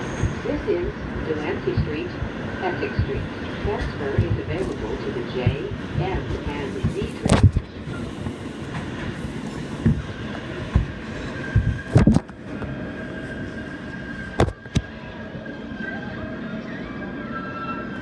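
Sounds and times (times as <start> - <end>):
subway car rumble: 0.0 - 18.0.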